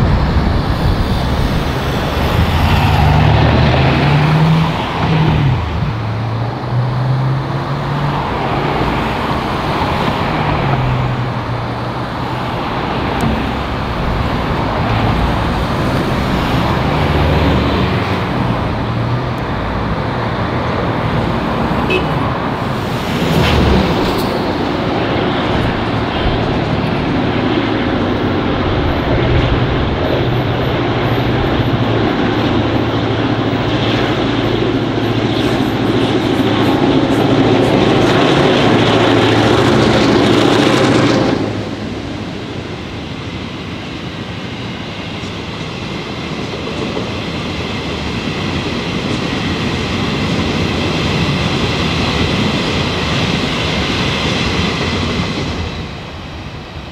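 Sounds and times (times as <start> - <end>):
diesel locomotive rumble: 0.0 - 56.9.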